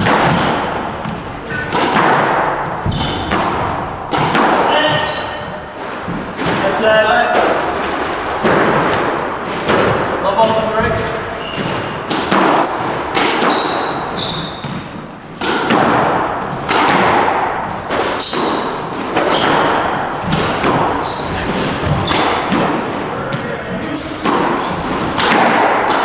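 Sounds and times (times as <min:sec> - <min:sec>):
shoes squeaking on wooden floor: 0:00.0 - 0:25.2
squash ball strikes echoing: 0:00.0 - 0:26.0.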